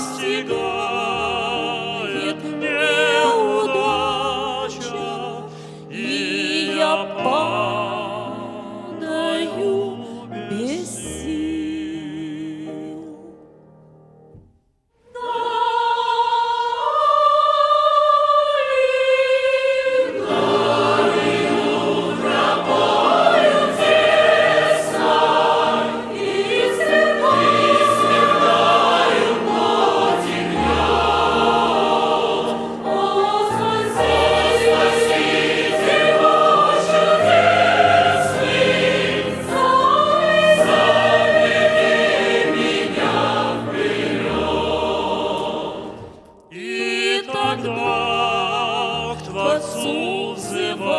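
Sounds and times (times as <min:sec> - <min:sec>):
choir singing: 0:00.0 - 0:13.2, 0:15.1 - 0:50.9.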